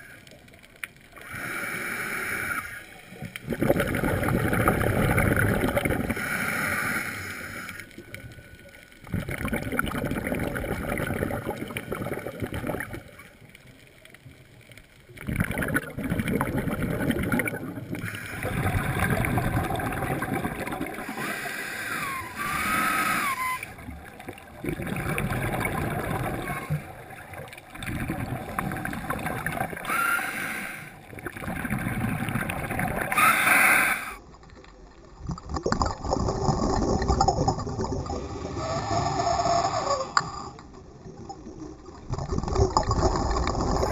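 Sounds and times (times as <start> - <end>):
underwater breathing bubbles: 0.0 - 13.5, 15.2 - 34.4, 35.2 - 43.9.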